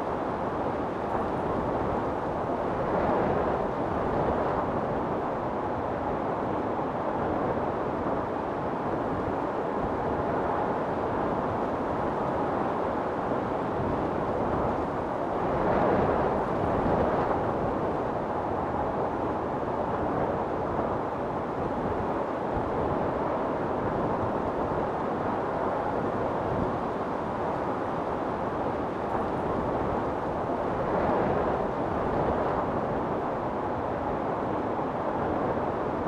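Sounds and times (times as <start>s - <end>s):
strong gusting wind: 0.0s - 36.0s.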